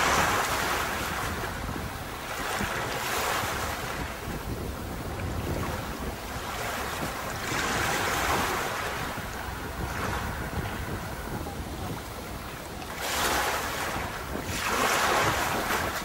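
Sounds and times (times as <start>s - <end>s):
sea surf washing onto beach: 0.0s - 16.0s.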